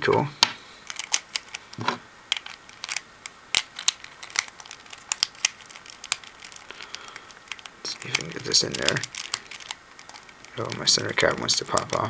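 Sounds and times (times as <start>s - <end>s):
plastic puzzle cube clicking: 0.8s - 12.0s.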